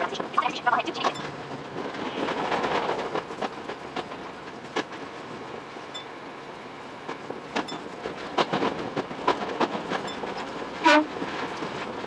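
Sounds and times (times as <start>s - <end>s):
train rumble and hiss: 0.0s - 12.0s
wheels clicking over rail joints: 1.0s - 6.2s, 6.8s - 12.0s.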